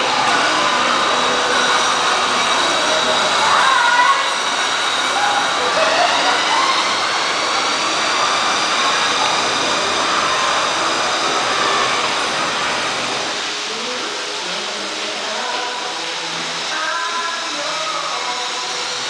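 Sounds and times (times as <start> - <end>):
roller coaster rumbling on track: 0.0 - 16.8.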